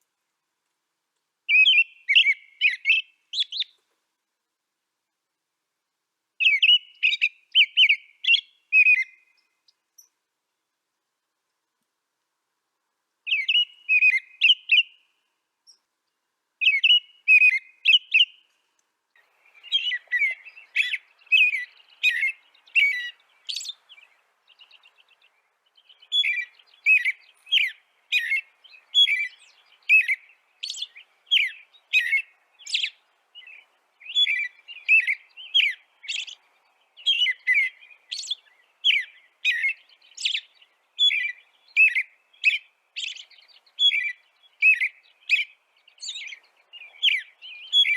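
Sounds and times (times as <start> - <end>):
songbird chirping: 0.0 - 47.9.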